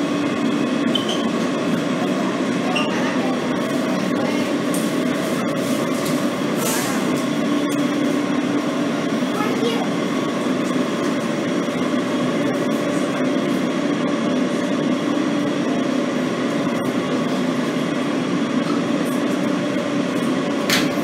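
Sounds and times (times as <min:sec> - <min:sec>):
subway train humming: 0:00.0 - 0:21.0.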